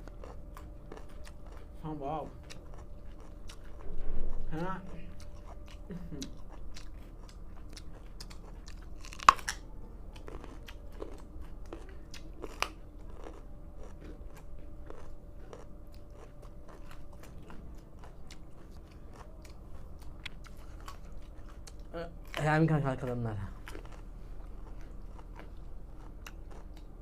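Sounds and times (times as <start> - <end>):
carrots being chewed: 0.0 - 27.0.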